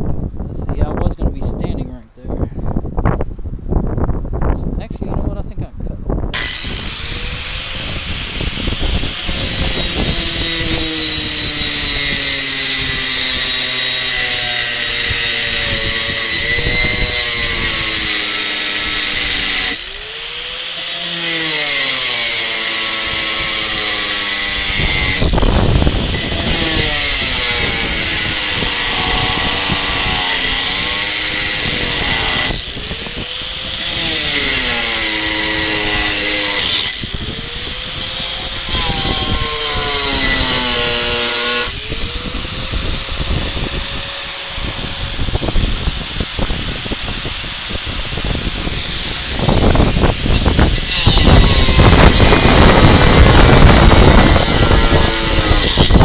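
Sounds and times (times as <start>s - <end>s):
angle grinder motor whine: 6.3s - 56.0s
grinder disc hissing on metal: 6.4s - 56.0s.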